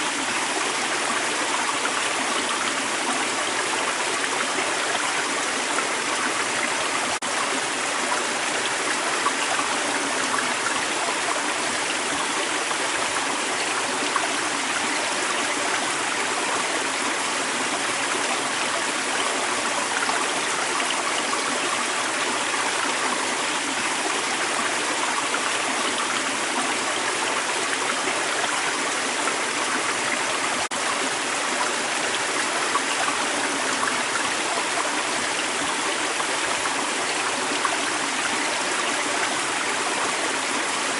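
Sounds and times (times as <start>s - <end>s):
creek water running over rocks: 0.0s - 40.9s.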